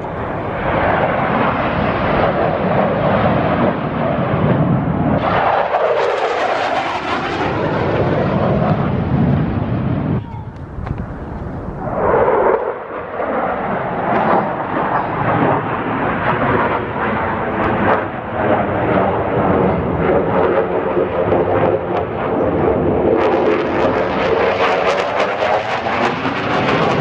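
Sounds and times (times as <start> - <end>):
jet aircraft flying overhead: 0.0 - 27.0.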